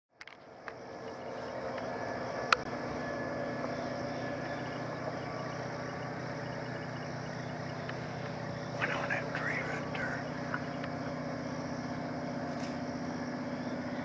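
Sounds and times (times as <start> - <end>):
low mechanical hum: 0.1 - 14.0.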